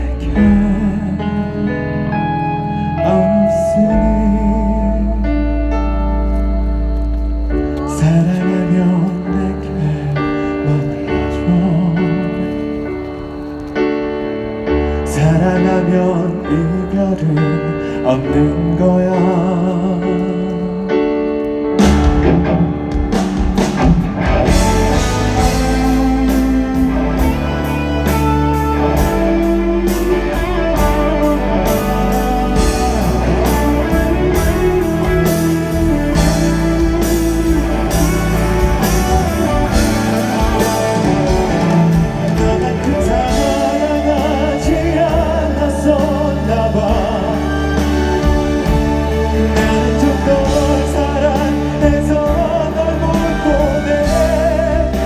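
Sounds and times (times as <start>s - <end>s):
pop-rock ballad by live band: 0.0s - 55.0s.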